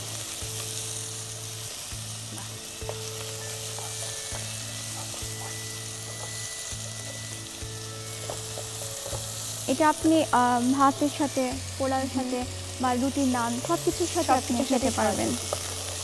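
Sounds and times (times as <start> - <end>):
food sizzling in oil: 0.0 - 16.0
soft background music: 0.0 - 16.0.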